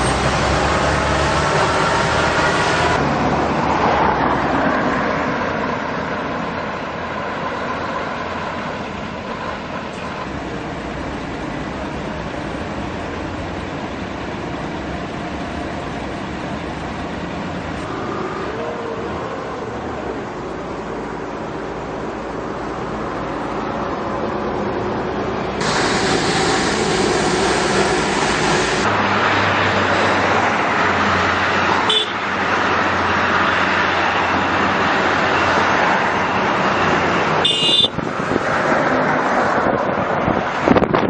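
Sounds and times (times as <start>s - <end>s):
heavy lorries driving past: 0.0s - 40.7s.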